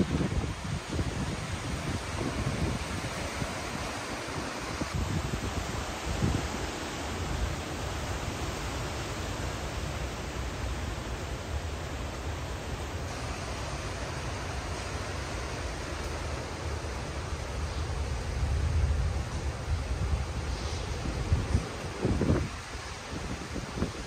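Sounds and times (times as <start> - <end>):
rain: 0.0 - 24.0
wind gusts buffeting microphone: 0.0 - 24.0
wind rushing: 0.0 - 24.0.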